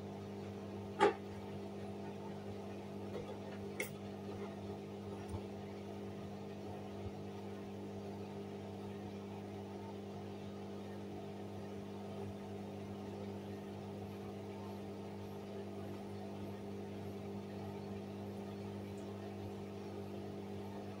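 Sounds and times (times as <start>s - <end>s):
washing machine drain pump humming: 0.0s - 21.0s.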